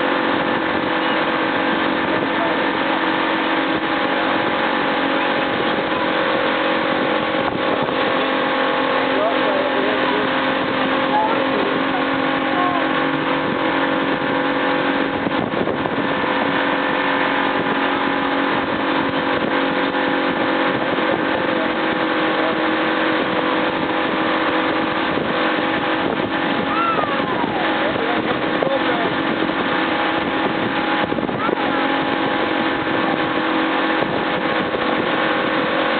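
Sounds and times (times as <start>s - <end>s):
motorboat engine humming: 0.0s - 35.9s
wind and water rushing: 0.0s - 35.9s.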